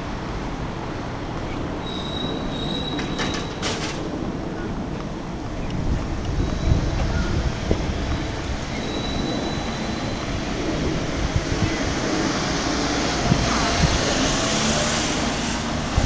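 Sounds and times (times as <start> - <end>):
outdoor city noise: 0.0 - 16.0
wind rumbling on microphone: 0.0 - 16.0.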